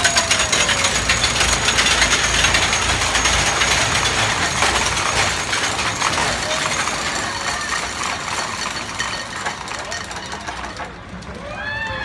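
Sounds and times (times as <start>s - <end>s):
roller coaster clicking and rattling: 0.0s - 12.0s.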